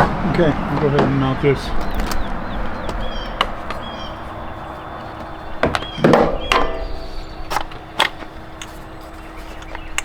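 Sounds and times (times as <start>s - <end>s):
metal steps knocking and clanking: 0.0s - 8.7s.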